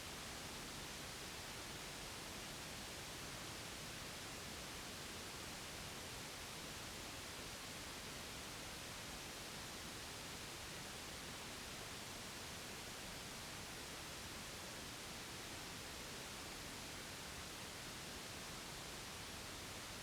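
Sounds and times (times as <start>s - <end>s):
steady white noise hiss: 0.0s - 20.0s.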